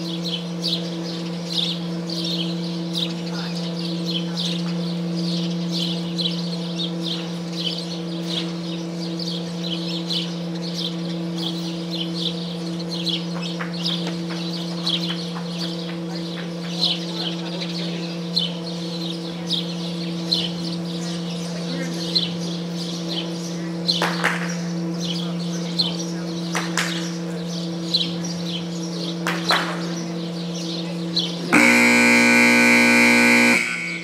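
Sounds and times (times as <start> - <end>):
small birds chirping: 0.0 - 34.0
steady electrical hum: 0.0 - 34.0.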